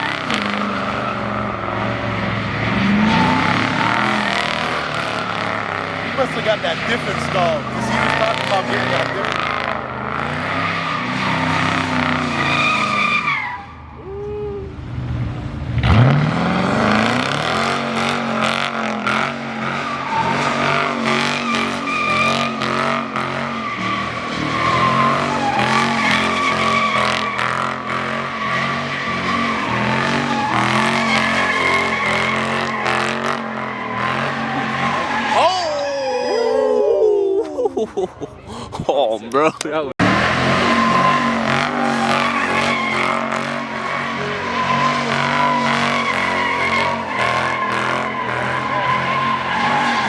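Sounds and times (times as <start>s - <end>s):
car engine revving: 0.0s - 35.4s, 40.0s - 50.0s
tires squealing on pavement: 0.0s - 37.6s, 40.0s - 50.0s.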